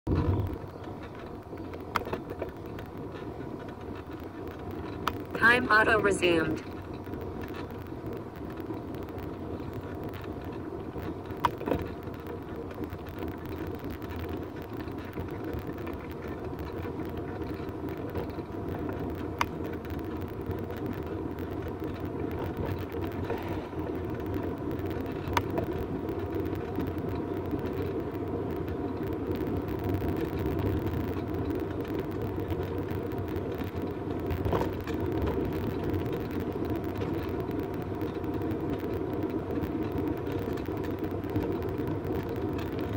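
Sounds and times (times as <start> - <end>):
bike clicks and knocks: 0.1 - 5.3, 6.7 - 42.9
bicycle tyre and wind rumble: 0.1 - 6.0, 6.6 - 42.9.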